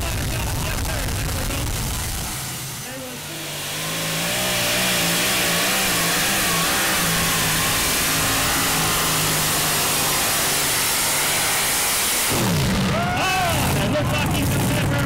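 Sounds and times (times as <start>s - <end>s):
tractor engine drone at full throttle: 0.0s - 15.0s.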